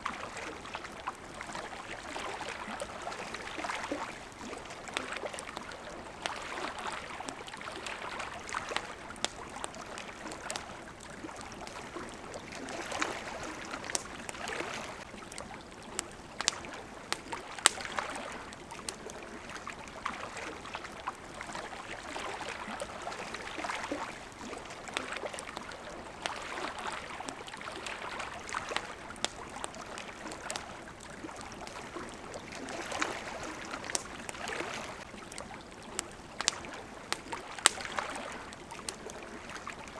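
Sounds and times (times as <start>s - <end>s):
campfire popping and crackling: 0.0s - 39.9s
small waves lapping at shore: 0.0s - 39.9s.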